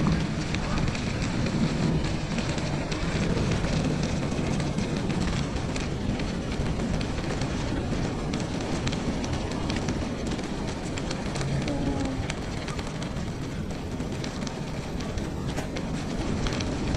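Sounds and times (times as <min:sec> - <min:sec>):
bicycle tyre and wind noise: 0:00.0 - 0:16.9
small clicks and crackles: 0:00.0 - 0:16.9.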